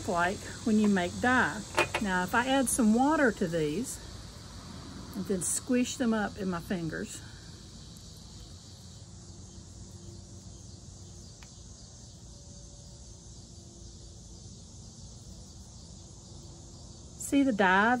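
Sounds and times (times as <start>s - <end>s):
crickets hissing: 0.0s - 18.0s.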